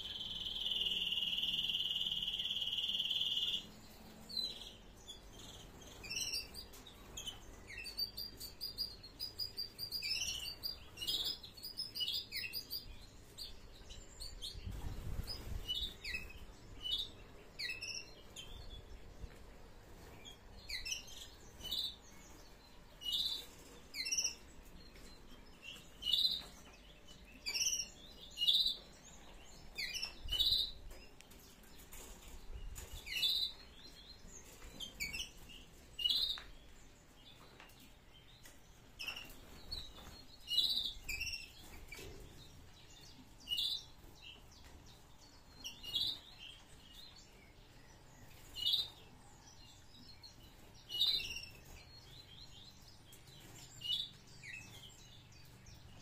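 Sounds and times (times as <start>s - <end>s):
canaries chirping and singing: 0.0s - 56.0s.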